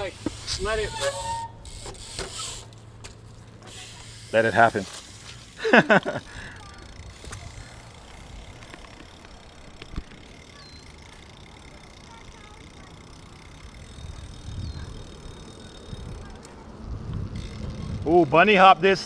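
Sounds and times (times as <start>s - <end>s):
bike rolling on concrete: 0.0s - 19.0s.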